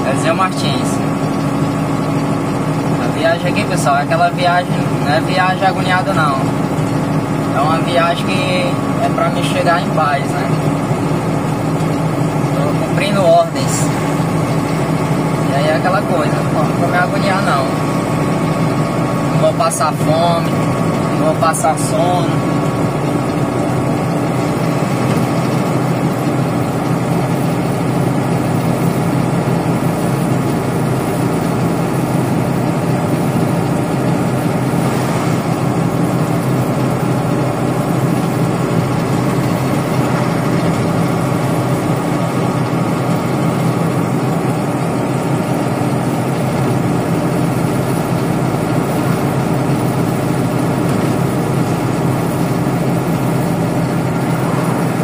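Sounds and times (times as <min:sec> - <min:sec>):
tyre road noise: 0:00.0 - 0:55.0
vehicle engine drone: 0:00.0 - 0:55.0.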